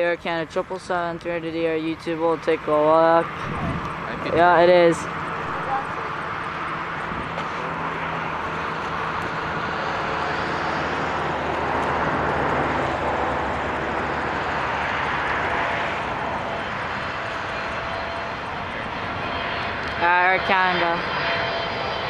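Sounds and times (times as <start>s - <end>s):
jet engines roaring past: 0.0s - 22.0s.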